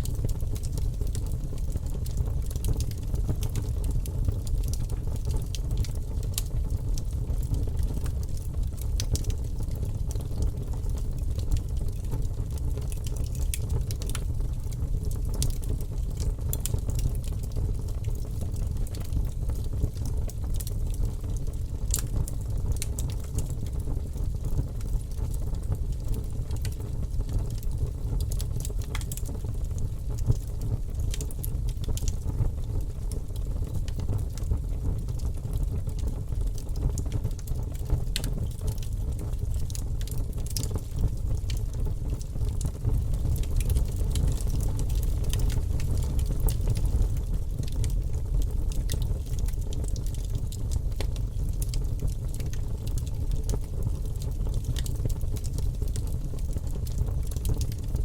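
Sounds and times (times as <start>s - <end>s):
low rumble of fire: 0.0s - 58.0s
wood fire crackling and popping: 0.0s - 58.0s.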